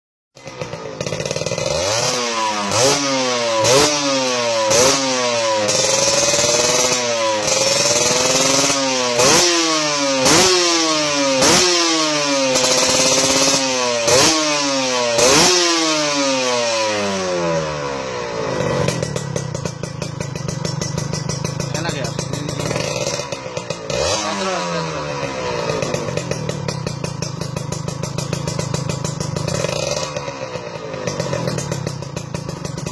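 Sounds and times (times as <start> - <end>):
two-stroke motorcycle engine revving: 0.4 - 32.9.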